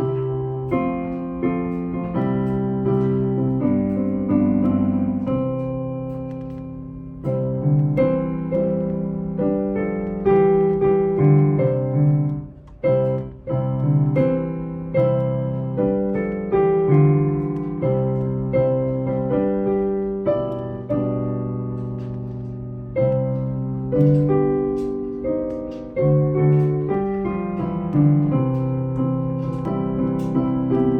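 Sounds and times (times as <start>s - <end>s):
hymn played on piano: 0.0s - 30.9s.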